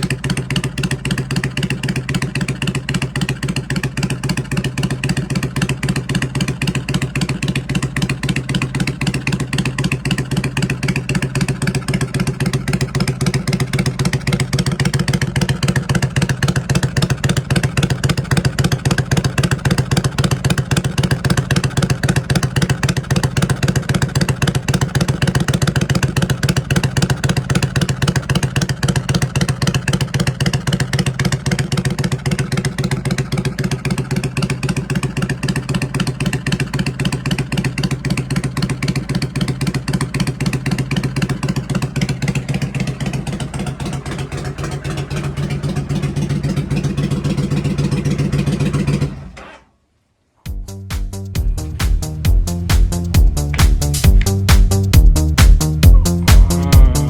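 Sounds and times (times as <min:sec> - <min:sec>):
motorcycle engine idling: 0:00.0 - 0:49.4, 0:50.5 - 0:57.0.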